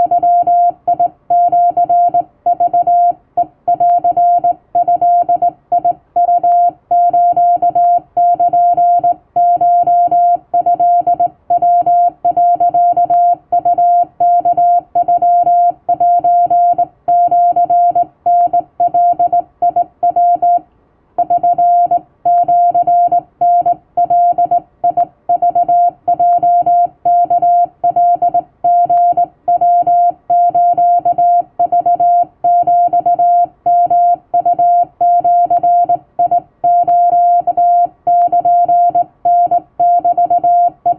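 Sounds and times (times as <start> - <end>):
morse code tone: 0.0 - 20.6, 21.2 - 40.9.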